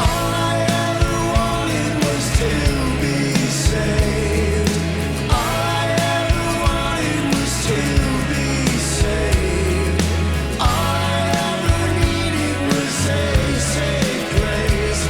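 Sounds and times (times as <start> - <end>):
person singing over a band: 0.0 - 15.0
steady drum beat: 0.0 - 15.0.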